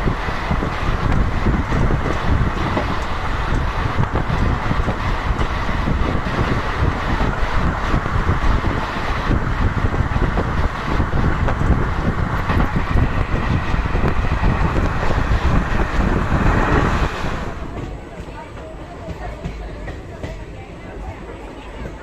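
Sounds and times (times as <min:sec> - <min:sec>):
wind rushing over microphone: 0:00.0 - 0:19.6
train wheels rumbling on rails: 0:00.0 - 0:22.0.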